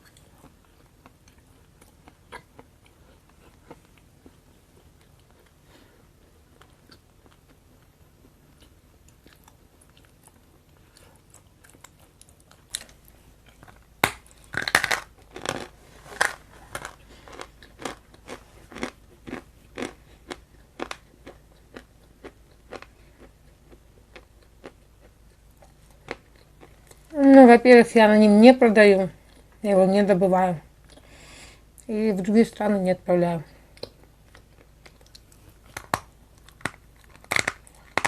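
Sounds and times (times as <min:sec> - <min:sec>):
person chewing crunchy food: 0:00.0 - 0:27.1, 0:33.7 - 0:38.0.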